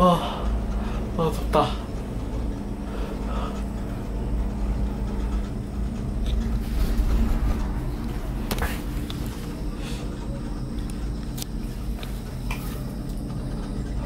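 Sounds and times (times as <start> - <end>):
cable car low rumble: 0.0 - 14.0
faint mechanical hum: 0.0 - 14.0.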